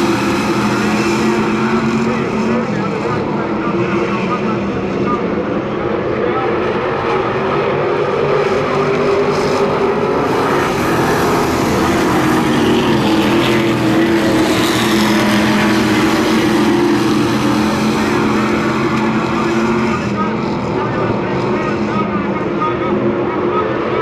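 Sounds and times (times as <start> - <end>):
racing car engines droning: 0.0 - 24.0.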